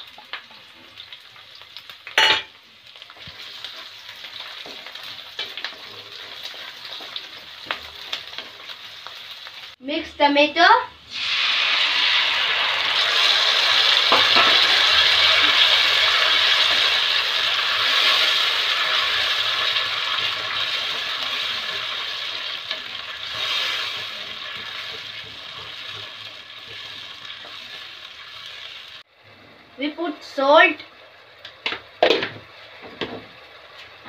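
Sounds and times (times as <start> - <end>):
tomato puree sizzling in oil: 0.0 - 34.0.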